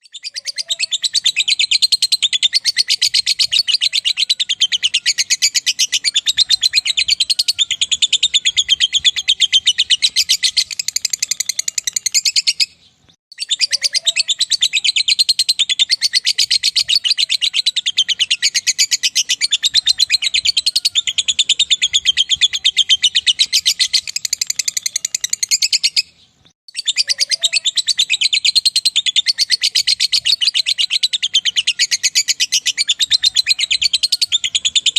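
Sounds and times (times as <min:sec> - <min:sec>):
bird high-pitched chattering song: 0:00.0 - 0:34.9.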